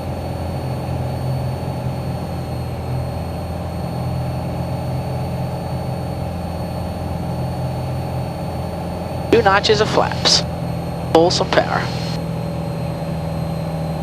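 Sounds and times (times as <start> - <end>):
airplane engine and propeller drone: 0.0 - 14.0.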